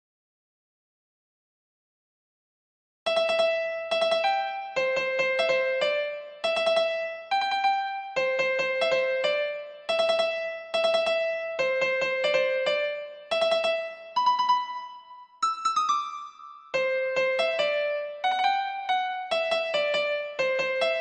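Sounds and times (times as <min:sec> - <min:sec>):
electronic piano melody: 0:03.1 - 0:21.0.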